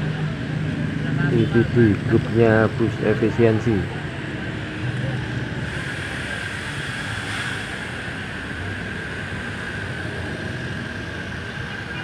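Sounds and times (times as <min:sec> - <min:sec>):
bus engine idling: 0:00.0 - 0:12.0
high whine: 0:00.0 - 0:12.0
street traffic: 0:00.0 - 0:12.0.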